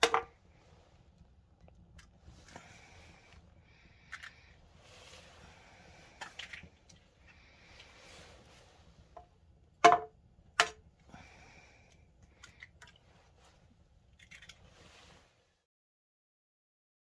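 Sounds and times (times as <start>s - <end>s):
faint sizzling and crackles: 0.0s - 9.6s, 10.8s - 15.7s.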